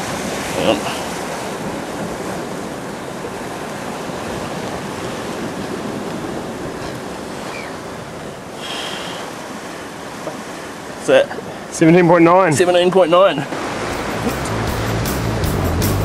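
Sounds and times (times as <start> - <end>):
surf breaking over rocks: 0.0 - 16.0.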